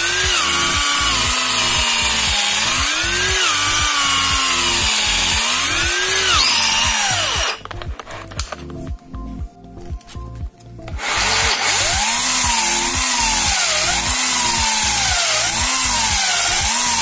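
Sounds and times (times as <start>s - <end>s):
electric drill whining: 0.0s - 7.6s, 11.0s - 17.0s.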